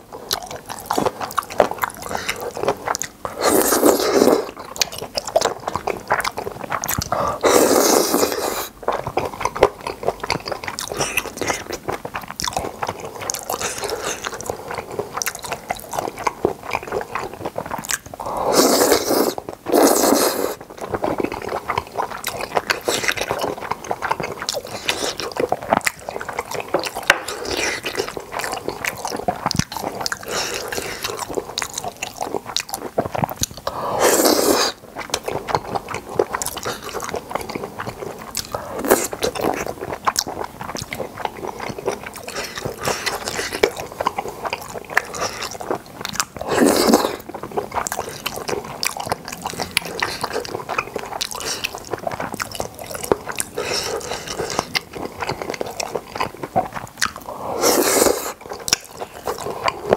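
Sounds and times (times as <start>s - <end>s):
person chewing wetly: 0.0s - 59.9s.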